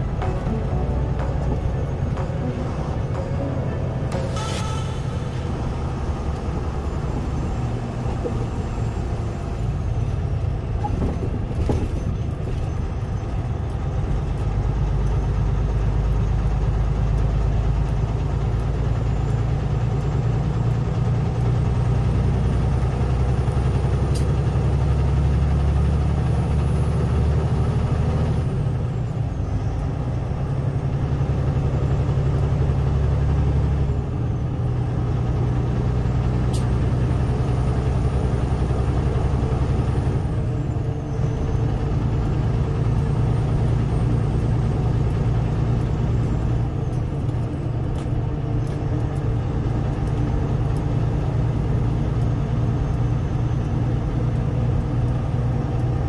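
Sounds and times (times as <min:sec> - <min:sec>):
truck diesel engine droning: 0:00.0 - 0:56.0.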